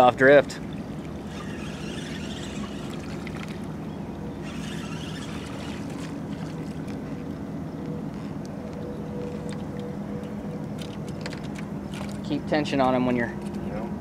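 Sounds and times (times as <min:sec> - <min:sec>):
wind and water hiss: 0:00.0 - 0:13.2
steady low hum: 0:00.5 - 0:12.4.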